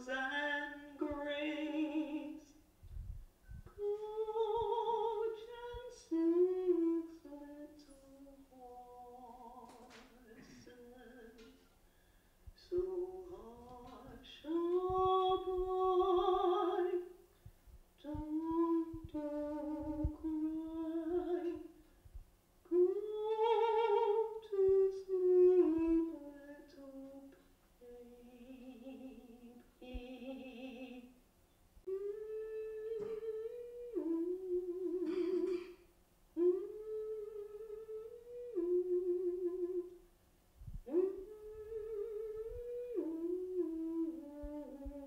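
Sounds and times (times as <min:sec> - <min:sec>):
woman humming a slow melody: 0:00.0 - 0:02.5, 0:03.5 - 0:11.7, 0:12.6 - 0:17.2, 0:18.0 - 0:21.8, 0:22.7 - 0:31.1, 0:31.8 - 0:35.8, 0:36.4 - 0:40.0, 0:40.7 - 0:45.0.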